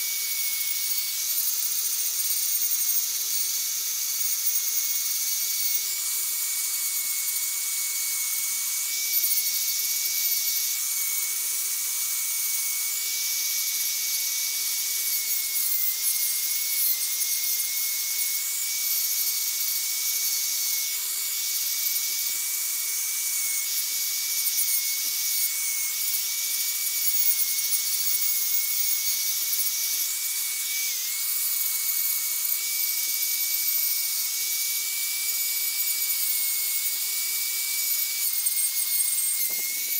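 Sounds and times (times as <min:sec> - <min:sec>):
rotary grinder whining into wood: 0:00.0 - 0:39.9.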